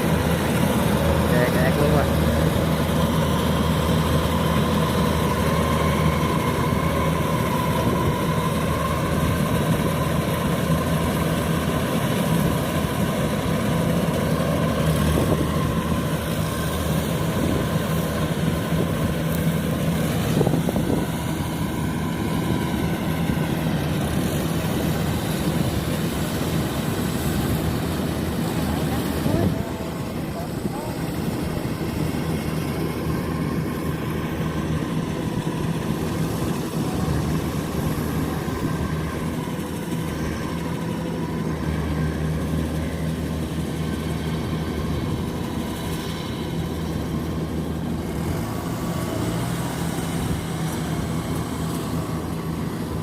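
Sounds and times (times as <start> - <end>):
combine harvester engine running: 0.0 - 53.0.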